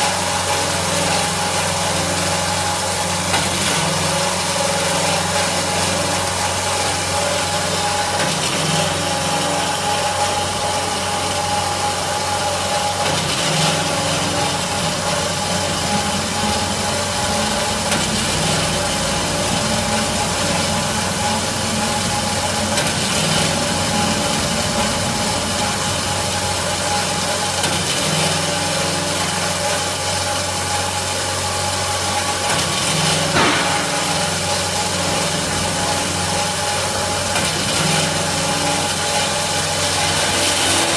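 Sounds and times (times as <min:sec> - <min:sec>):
band saw running: 0:00.0 - 0:40.9.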